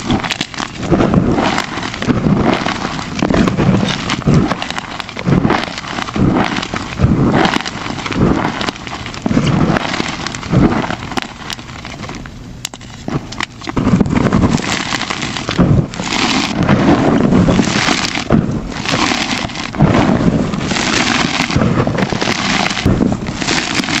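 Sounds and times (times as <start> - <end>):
chalk crunching and crackling: 0.0 - 24.0.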